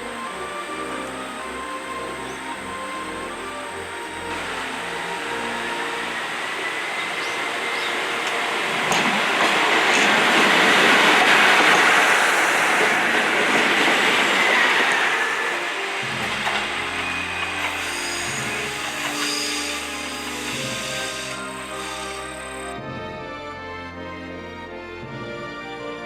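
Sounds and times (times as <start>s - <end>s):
diesel train passing: 0.0s - 22.9s.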